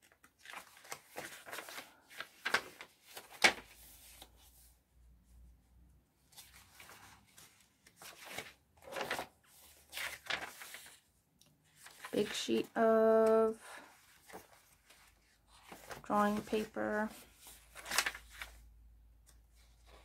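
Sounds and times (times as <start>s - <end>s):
paper pages rustling: 0.0s - 4.8s, 6.2s - 20.0s.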